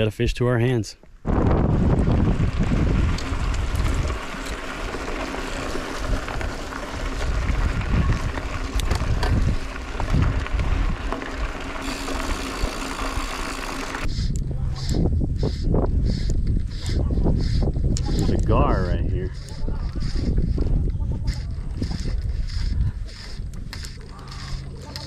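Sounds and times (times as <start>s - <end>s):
bicycle tyres on gravel: 1.2s - 25.0s
wind buffeting microphone: 1.2s - 25.0s
bike clicks and rattles: 1.7s - 25.0s.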